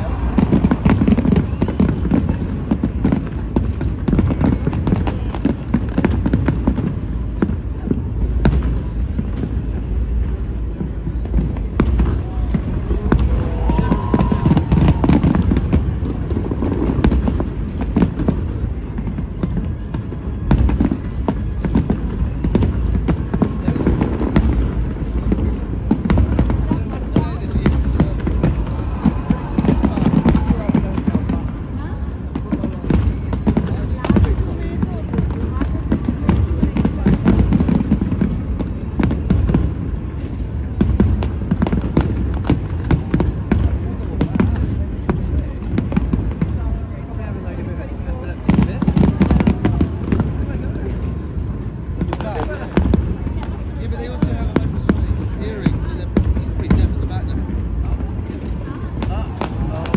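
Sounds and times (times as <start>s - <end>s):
fireworks bangs and crackles: 0.0s - 59.9s
low rumble of fireworks: 0.0s - 59.9s.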